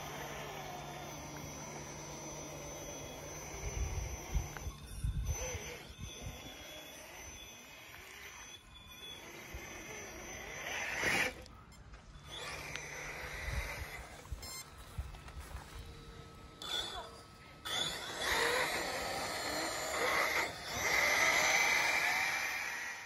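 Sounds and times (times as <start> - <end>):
rc car motor whining: 0.0 - 23.0.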